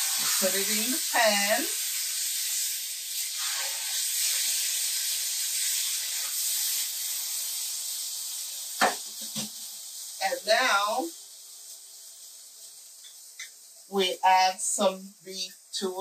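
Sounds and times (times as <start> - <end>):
tortilla sizzling in frying pan: 0.0 - 16.0.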